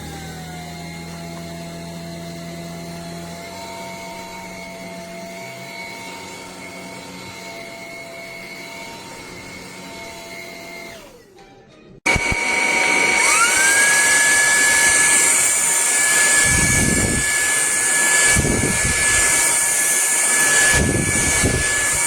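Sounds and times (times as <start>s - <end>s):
vacuum motor whining: 0.0s - 11.2s, 12.1s - 22.0s.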